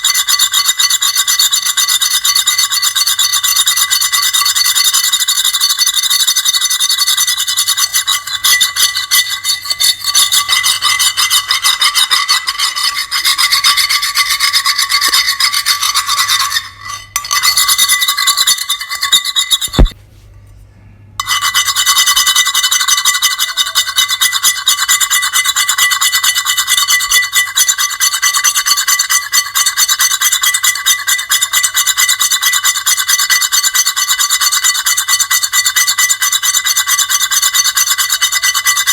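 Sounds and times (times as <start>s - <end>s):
high-pitched grating scrape: 0.0s - 20.0s, 21.2s - 38.9s.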